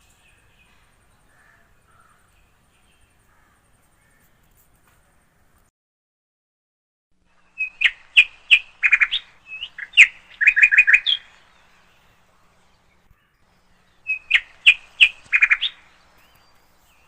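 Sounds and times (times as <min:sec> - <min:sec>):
songbird chirping: 0:00.0 - 0:05.7, 0:07.2 - 0:17.0.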